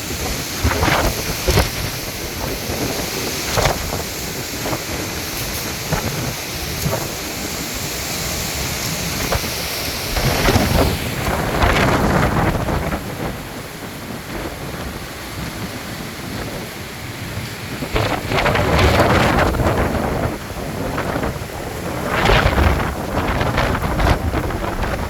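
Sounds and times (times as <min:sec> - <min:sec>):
strong wind on microphone: 0:00.0 - 0:25.0.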